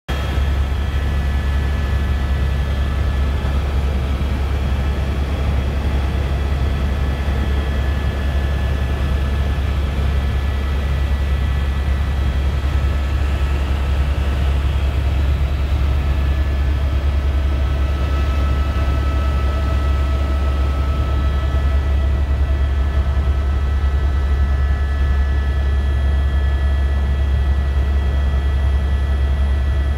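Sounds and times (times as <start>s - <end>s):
helicopter rotor drone: 0.1s - 29.9s.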